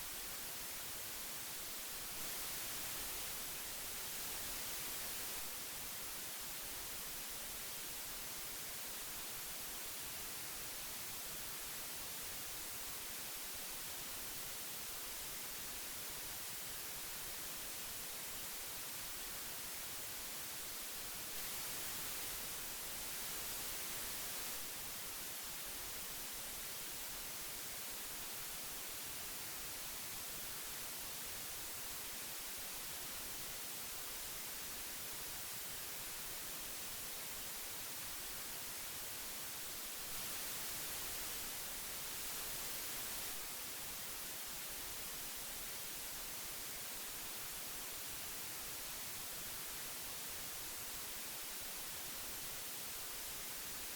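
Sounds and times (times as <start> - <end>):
tape hiss: 0.0 - 53.9.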